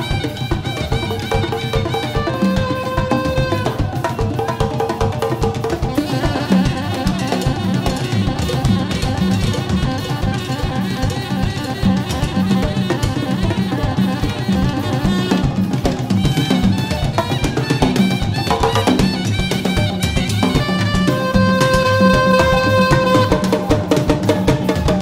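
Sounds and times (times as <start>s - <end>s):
jazz drum kit groove: 0.0s - 25.0s.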